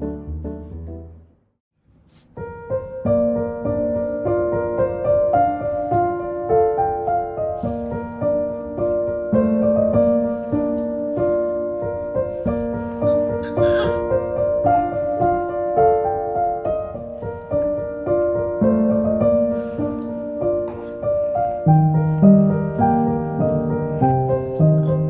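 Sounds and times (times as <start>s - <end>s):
gentle piano melody: 0.0s - 1.4s, 2.4s - 25.0s.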